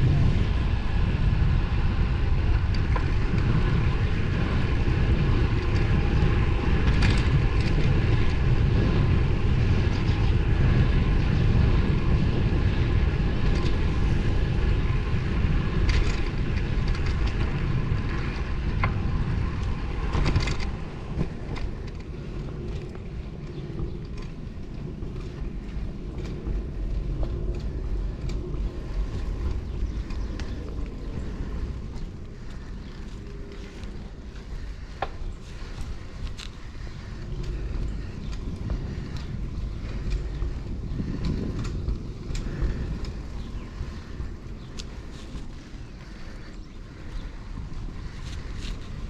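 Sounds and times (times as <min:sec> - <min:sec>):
bike tyre and drivetrain noise: 0:00.0 - 0:49.0
wind rush on microphone: 0:00.0 - 0:49.0.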